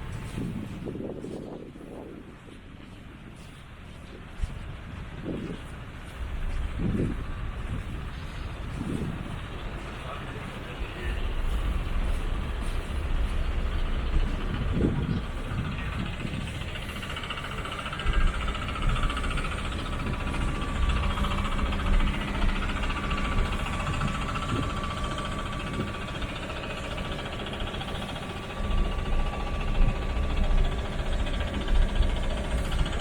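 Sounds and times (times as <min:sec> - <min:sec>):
low rumbling: 0:00.0 - 0:33.0
road traffic hum: 0:00.0 - 0:33.0.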